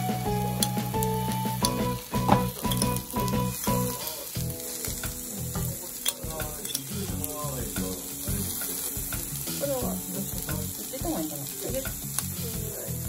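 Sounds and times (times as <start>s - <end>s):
batter sizzling in a pan: 0.0s - 13.0s.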